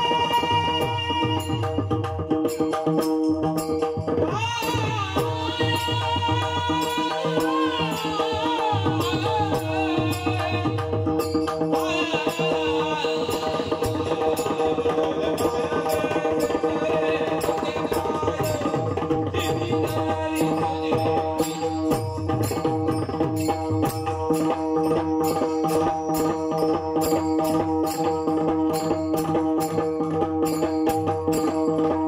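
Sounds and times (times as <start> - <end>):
hand drum playing: 0.0 - 32.0.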